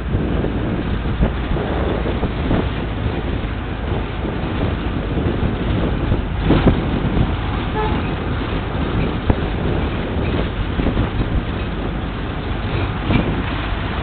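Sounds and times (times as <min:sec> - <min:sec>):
tyres and engine rumble: 0:00.0 - 0:14.0
wind buffeting microphone: 0:00.0 - 0:14.0.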